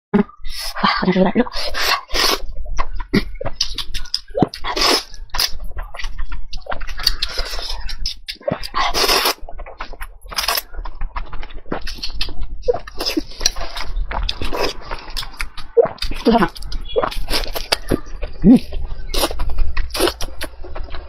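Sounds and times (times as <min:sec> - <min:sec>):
wet chewing and mouth smacks: 0:01.5 - 0:21.0.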